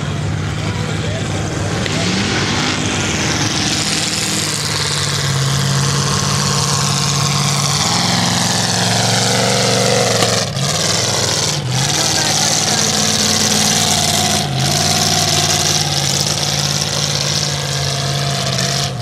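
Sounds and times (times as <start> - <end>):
truck engine running hard: 0.0 - 19.0
churned water and spray: 2.2 - 19.0.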